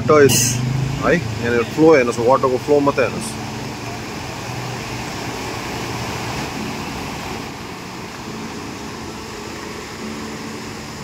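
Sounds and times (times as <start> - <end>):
turbulent floodwater rushing: 0.0 - 11.0.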